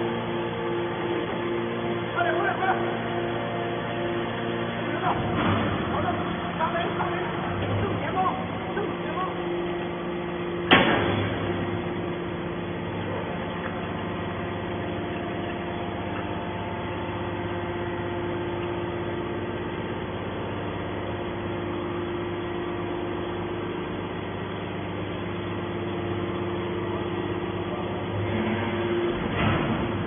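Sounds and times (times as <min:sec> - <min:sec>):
hydraulic power unit humming: 0:00.0 - 0:30.0.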